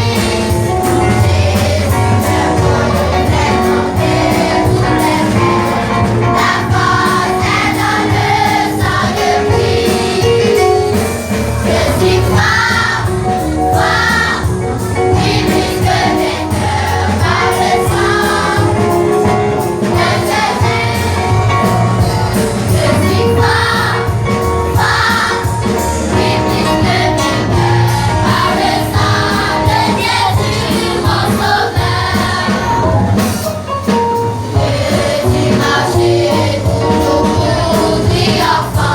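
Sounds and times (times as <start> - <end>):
choir singing a gospel hymn: 0.0 - 38.9
instrumental backing: 0.0 - 38.9.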